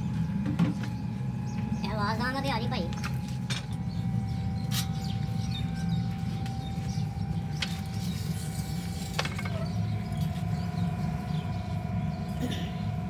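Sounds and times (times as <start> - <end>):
faint whine: 0.0 - 13.0
machinery humming: 0.0 - 13.0.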